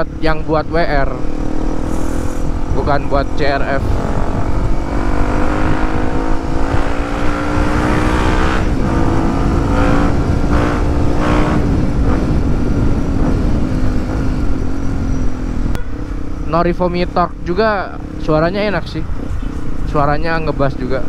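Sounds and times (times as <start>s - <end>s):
motorcycle engine running: 0.0s - 21.0s
wind rumbling on microphone: 0.0s - 21.0s.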